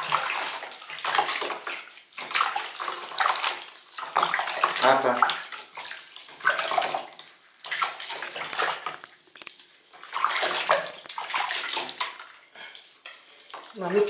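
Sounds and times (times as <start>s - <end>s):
water splashing in bathtub: 0.0s - 14.0s.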